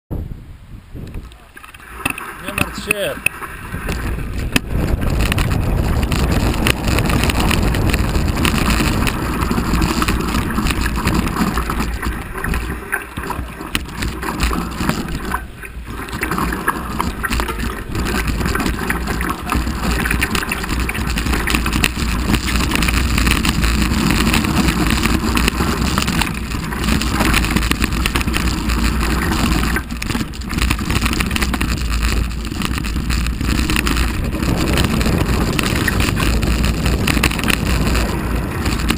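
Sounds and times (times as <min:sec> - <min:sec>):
wind buffeting microphone: 0:00.1 - 0:38.9
bike tyres crunching over gravel: 0:01.7 - 0:38.9
bike clattering over bumps: 0:01.8 - 0:38.9.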